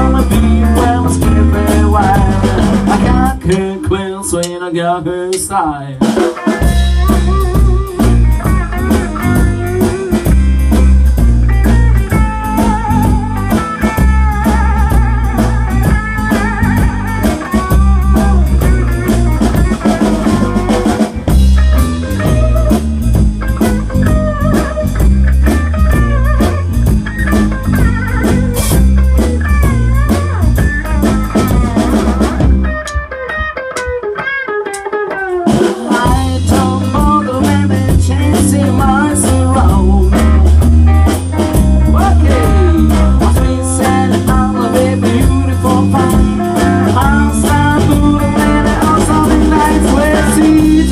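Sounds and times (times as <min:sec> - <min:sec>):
bass guitar: 0:00.0 - 0:50.9
drum kit: 0:00.0 - 0:50.9
electric guitar lead with bent notes: 0:00.0 - 0:50.9.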